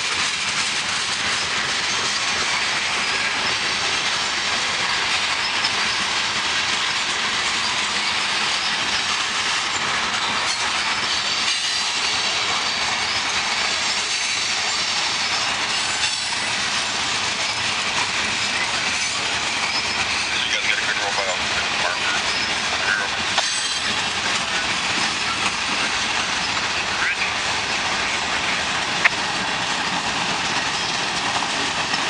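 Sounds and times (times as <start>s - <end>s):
train wheels rushing on rails: 0.0s - 32.0s.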